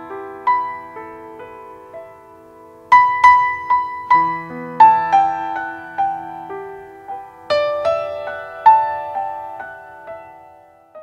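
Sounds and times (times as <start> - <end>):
slow solo piano melody: 0.0 - 11.0.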